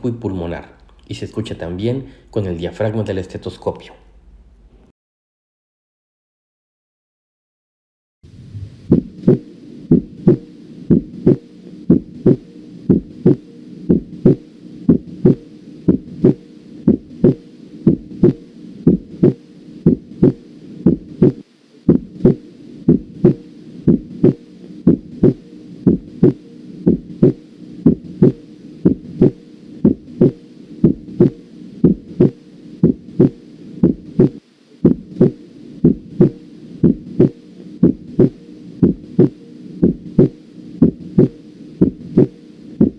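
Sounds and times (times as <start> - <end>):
low hum: 8.2 - 42.9
heartbeat through stethoscope: 8.3 - 42.9.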